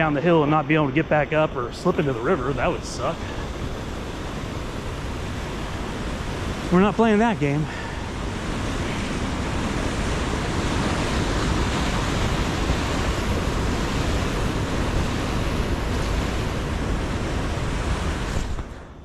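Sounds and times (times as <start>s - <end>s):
river water rushing: 1.8s - 18.6s.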